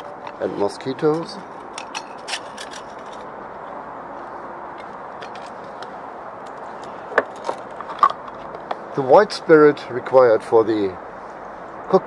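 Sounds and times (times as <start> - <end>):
outdoor ambience hiss: 0.0 - 12.0.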